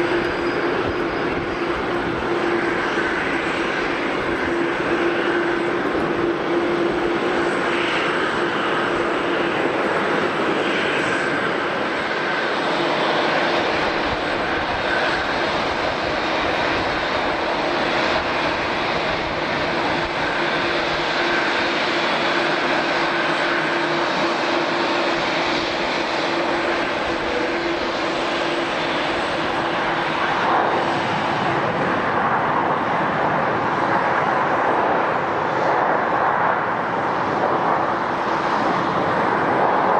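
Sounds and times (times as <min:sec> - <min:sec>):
jet engine whine: 0:00.0 - 0:39.9
jet engines humming: 0:00.0 - 0:39.9.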